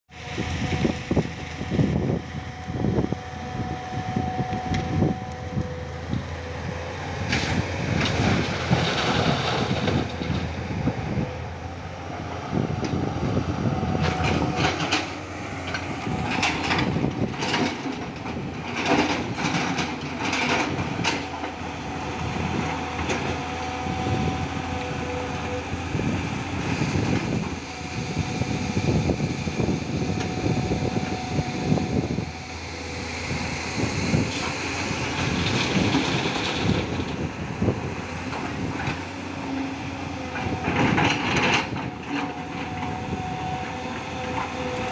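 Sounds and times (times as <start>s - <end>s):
excavator diesel engine running: 0.1s - 44.9s.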